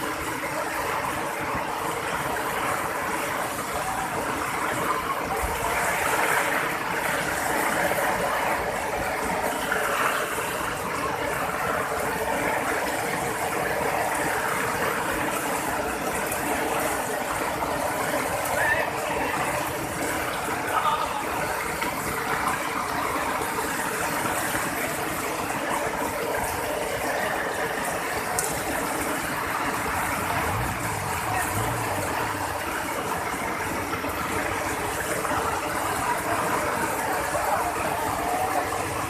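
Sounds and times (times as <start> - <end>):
rushing floodwater and rain: 0.0 - 39.0.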